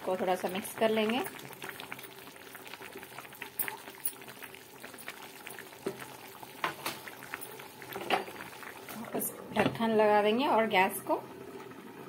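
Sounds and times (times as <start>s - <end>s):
water boiling and bubbling: 0.0s - 12.0s.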